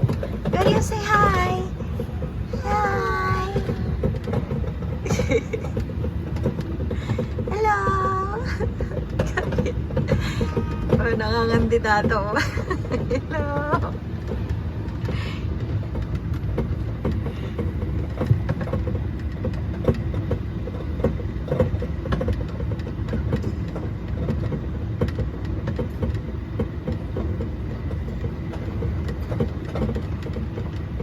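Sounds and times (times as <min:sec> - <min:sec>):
carriages rattling: 0:00.0 - 0:31.0
ride train rumbling: 0:00.0 - 0:31.0.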